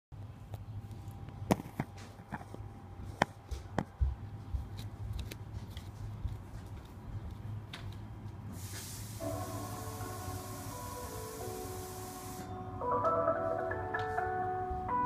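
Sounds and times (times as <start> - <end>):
steady low hum: 0.2 - 13.6.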